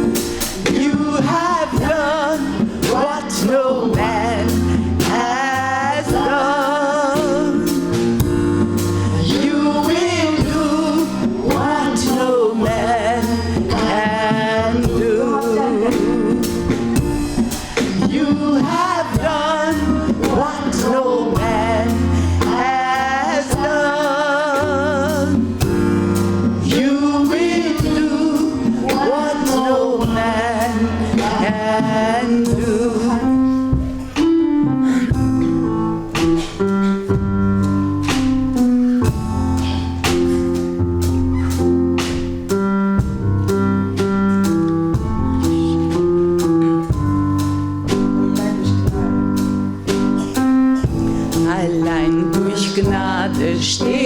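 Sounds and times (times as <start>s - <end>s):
person singing: 0.0s - 16.9s, 17.6s - 25.9s, 26.6s - 35.6s, 44.4s - 54.0s
gospel band playing: 0.0s - 54.0s.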